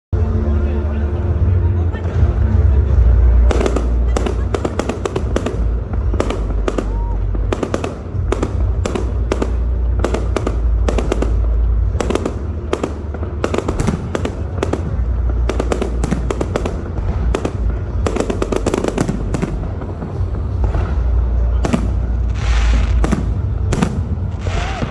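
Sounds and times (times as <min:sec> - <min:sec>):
deep rumble: 0:00.2 - 0:24.9
fireworks cracking and banging: 0:02.0 - 0:24.9.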